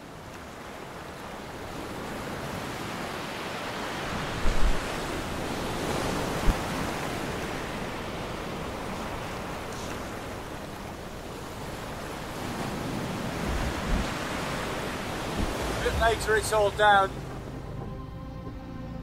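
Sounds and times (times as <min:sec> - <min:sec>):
strong wind and rough sea: 0:00.0 - 0:17.4.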